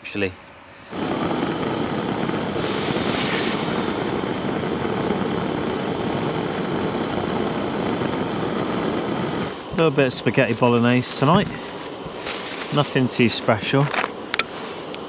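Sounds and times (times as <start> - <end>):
camp stove burner rushing: 0.9 - 15.0.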